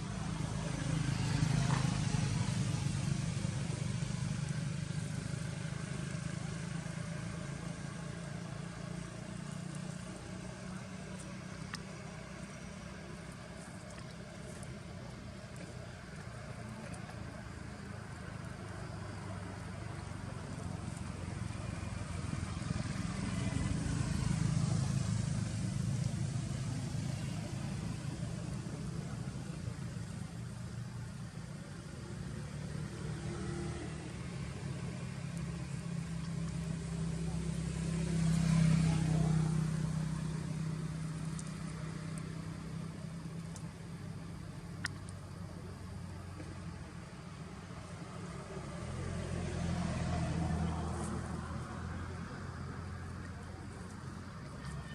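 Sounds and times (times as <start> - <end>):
traffic engine hum: 0.0 - 54.9.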